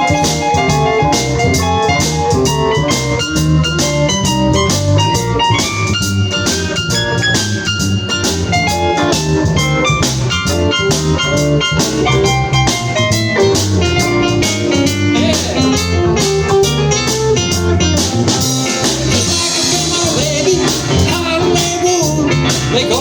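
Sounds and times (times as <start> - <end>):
bass: 0.0 - 23.0
drum kit with cymbals: 0.0 - 23.0
lead guitar: 0.0 - 23.0.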